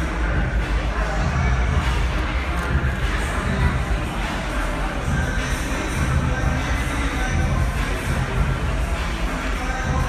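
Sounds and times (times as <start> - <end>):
crowd hubbub in a large hall: 0.0 - 10.0
music playing: 0.0 - 10.0.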